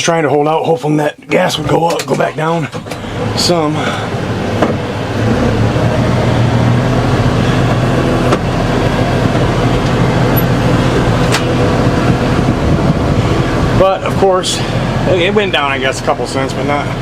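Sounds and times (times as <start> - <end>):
tractor engine running: 1.3 - 17.0.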